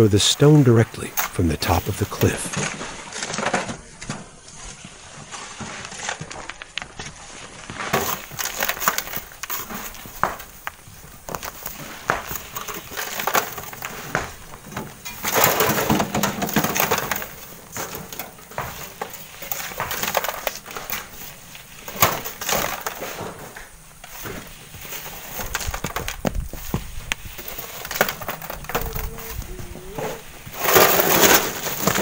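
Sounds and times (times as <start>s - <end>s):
gravel scraping and crunching: 0.0s - 32.0s.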